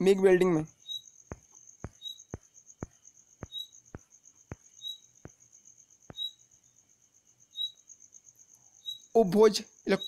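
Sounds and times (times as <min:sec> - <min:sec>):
insect trilling: 0:00.0 - 0:10.0.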